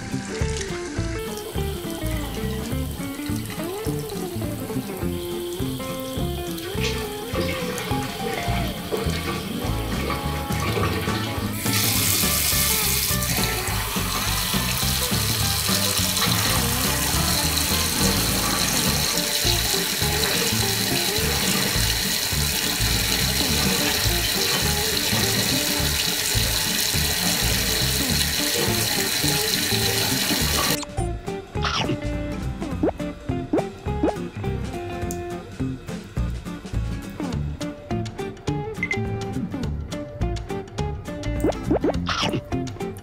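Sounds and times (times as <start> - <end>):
tap water running into sink: 0.0 - 30.9, 31.6 - 39.0
background music: 0.0 - 43.0.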